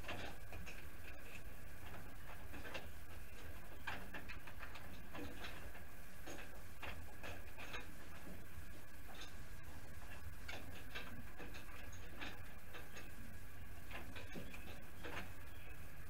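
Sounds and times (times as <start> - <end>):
steady low hum: 0.0 - 16.0
wiring clicks and rustles: 0.0 - 16.0.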